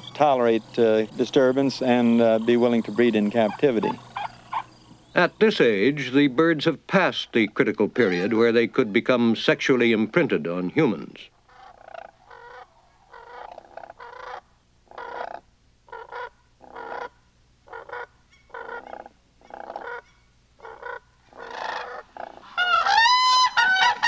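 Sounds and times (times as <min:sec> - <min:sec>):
cranes calling: 0:00.0 - 0:05.9, 0:07.5 - 0:09.2, 0:10.9 - 0:24.0
crane bugling calls: 0:00.0 - 0:10.2, 0:10.8 - 0:24.0.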